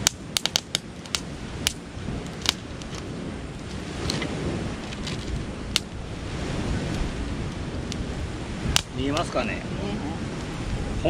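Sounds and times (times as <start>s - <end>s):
campfire crackling and popping: 0.0s - 11.0s
low rumble of burning fire: 0.0s - 11.0s.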